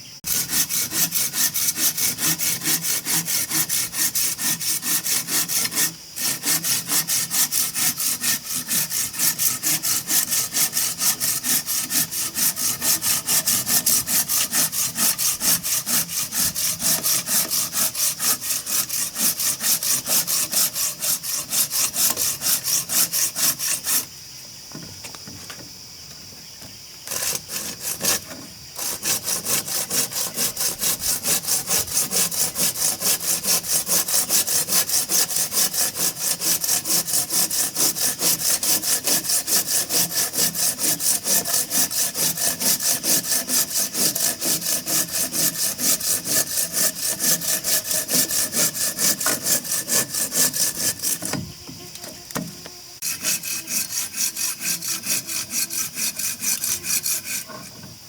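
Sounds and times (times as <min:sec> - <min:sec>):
hand saw cutting wood: 0:00.2 - 0:24.1, 0:27.0 - 0:58.0.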